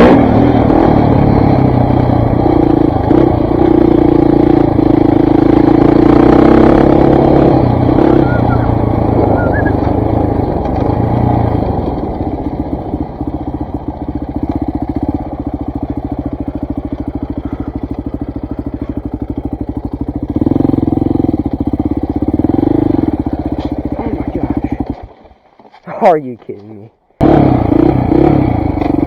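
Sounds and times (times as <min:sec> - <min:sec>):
dirt bike engine running: 0:00.0 - 0:26.6, 0:27.2 - 0:29.0.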